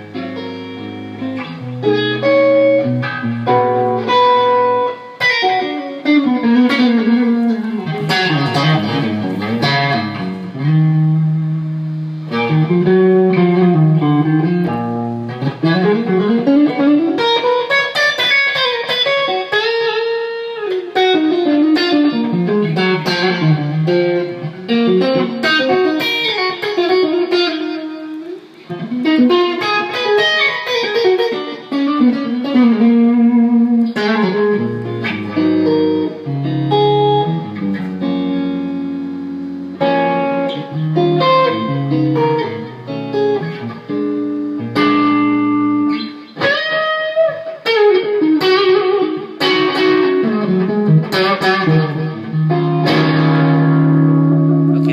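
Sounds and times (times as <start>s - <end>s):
electric guitar lead line: 0.0s - 54.9s.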